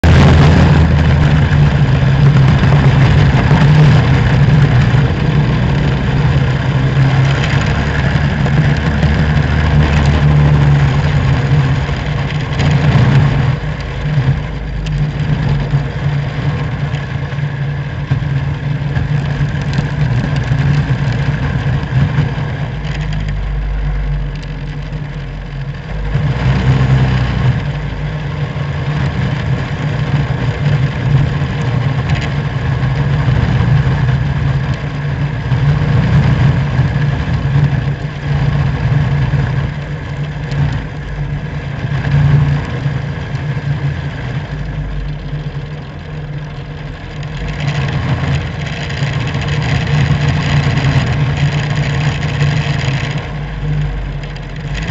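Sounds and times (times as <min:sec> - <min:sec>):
racing kart engine: 0:00.0 - 0:54.9.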